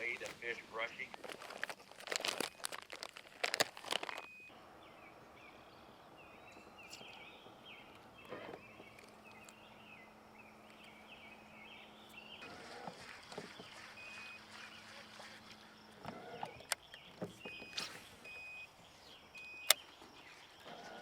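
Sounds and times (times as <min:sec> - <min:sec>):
bird chirping: 0:03.4 - 0:21.0.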